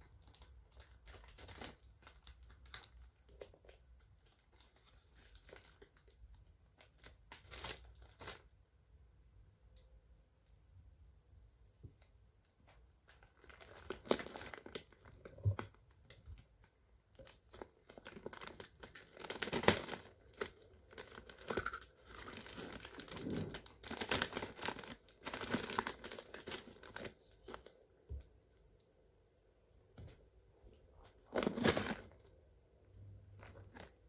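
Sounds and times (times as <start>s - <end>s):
crinkly packaging rustling: 0.0s - 8.6s, 12.6s - 28.2s, 30.0s - 34.0s.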